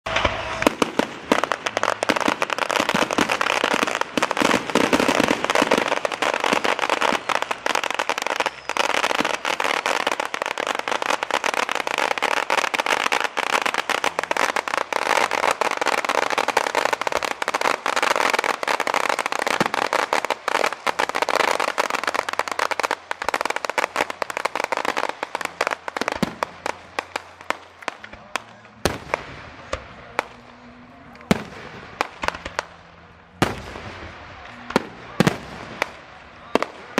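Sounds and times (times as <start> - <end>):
fireworks crackling and banging: 0.0 - 36.9.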